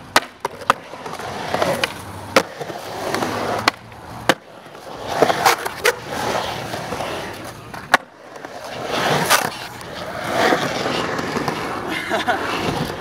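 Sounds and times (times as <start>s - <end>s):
skateboard clacking on concrete: 0.0s - 13.0s
skateboard wheels rolling on concrete: 0.0s - 13.0s.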